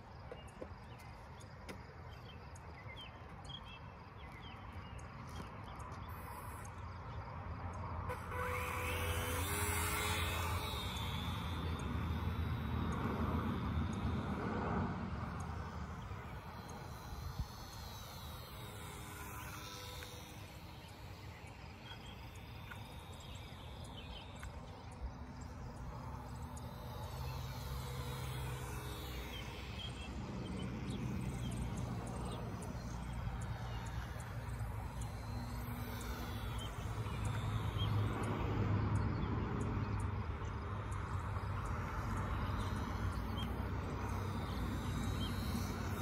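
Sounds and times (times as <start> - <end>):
small propeller plane buzzing: 0.0 - 46.0.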